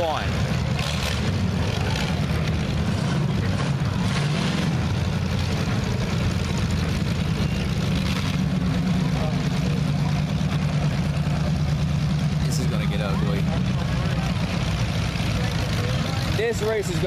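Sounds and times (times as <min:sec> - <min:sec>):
race car engines rumbling: 0:00.0 - 0:17.0.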